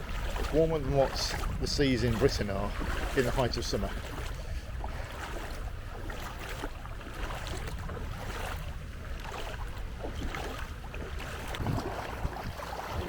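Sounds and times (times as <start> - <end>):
feet wading through water: 0.0 - 13.0
wind rumble on microphone: 0.0 - 13.0.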